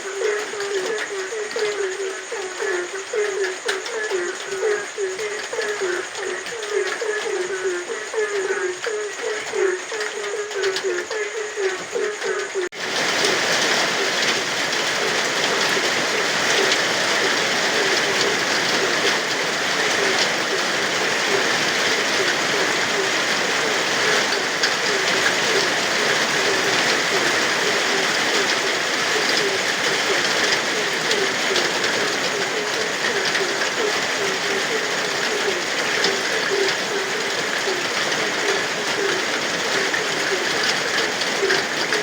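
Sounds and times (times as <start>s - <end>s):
frogs croaking: 0.0s - 42.0s
heavy rain: 0.0s - 42.0s.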